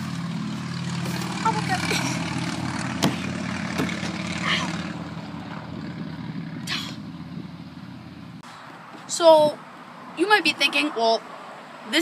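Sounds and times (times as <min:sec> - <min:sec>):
distant engine drone: 0:00.0 - 0:11.2.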